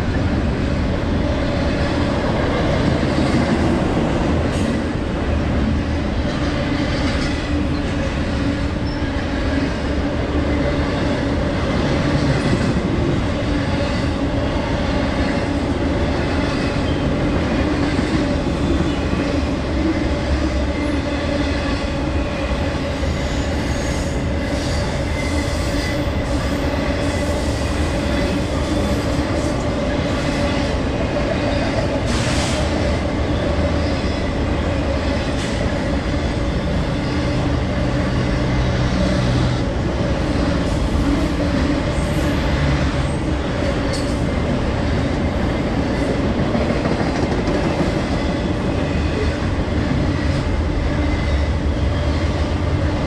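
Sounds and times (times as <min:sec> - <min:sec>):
steel train wheels rumbling on rail: 0:00.0 - 0:53.0.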